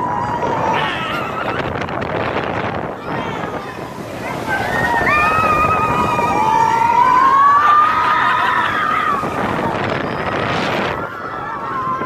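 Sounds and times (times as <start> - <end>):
roller coaster track rumble: 0.0 - 12.0
wind rushing past microphone: 0.0 - 12.0.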